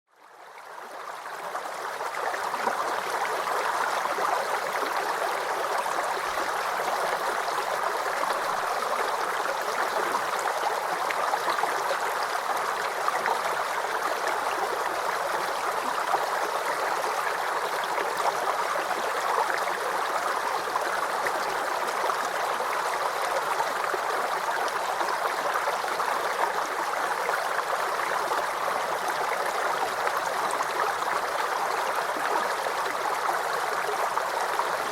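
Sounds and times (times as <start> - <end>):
stream flowing over stones: 0.3 - 34.9.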